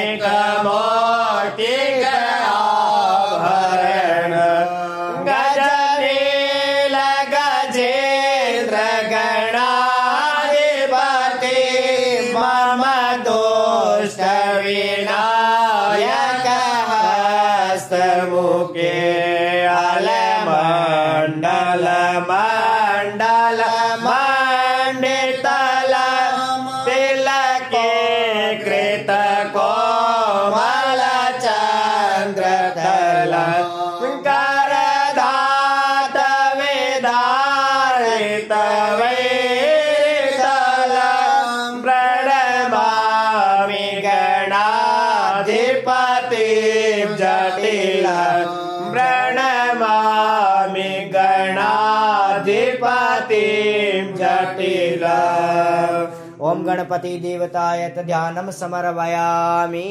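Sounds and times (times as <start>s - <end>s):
man chanting melodically: 0.0s - 59.9s.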